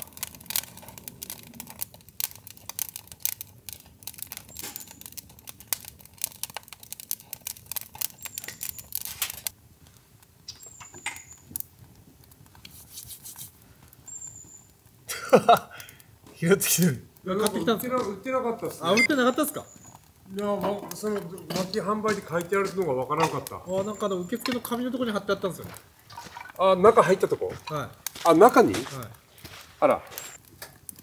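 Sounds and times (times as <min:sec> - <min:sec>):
leaves crackling and popping in fire: 0:00.0 - 0:31.0.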